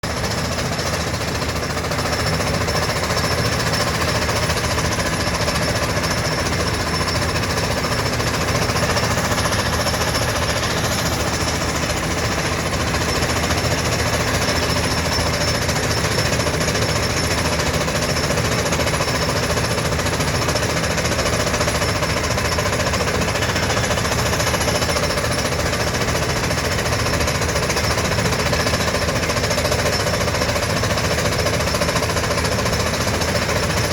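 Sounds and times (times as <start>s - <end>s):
percussion drill rig hammering: 0.0s - 33.9s.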